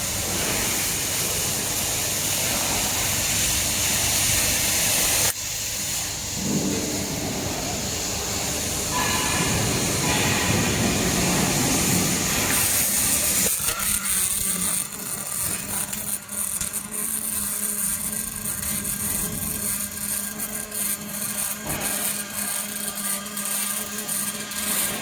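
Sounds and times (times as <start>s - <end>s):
welding arc hissing and crackling: 0.0s - 25.0s.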